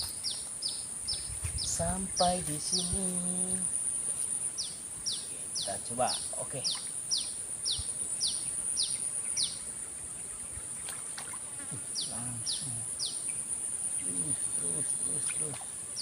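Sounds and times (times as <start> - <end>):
high-pitched insect drone: 0.0 - 9.8, 11.6 - 16.0
bird chirping: 0.0 - 10.7, 11.7 - 16.0.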